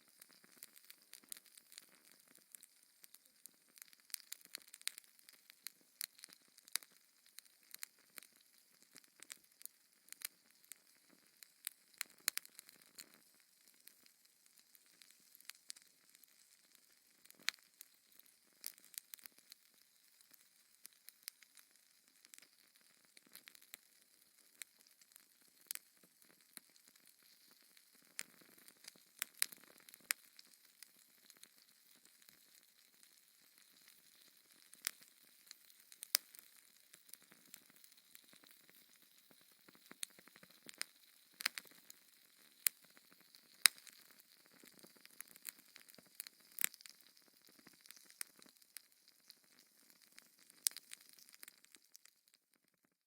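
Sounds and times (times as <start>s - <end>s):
faint steady hiss: 0.0s - 53.0s
wood fire crackling and popping: 0.0s - 53.0s.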